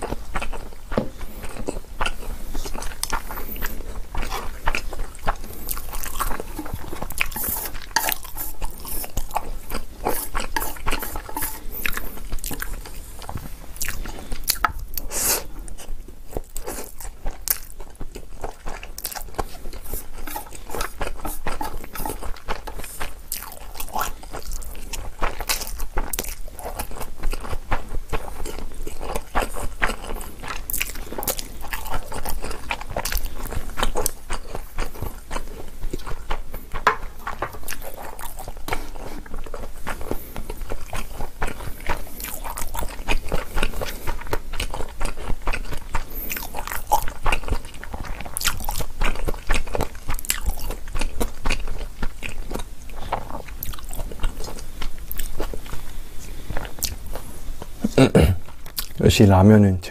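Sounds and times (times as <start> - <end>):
person chewing noodles: 0.0 - 59.0.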